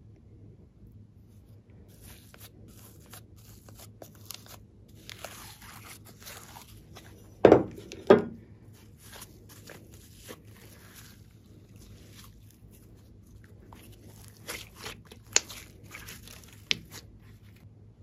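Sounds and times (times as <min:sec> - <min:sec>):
slime crackling: 0:01.9 - 0:08.1, 0:08.8 - 0:17.6.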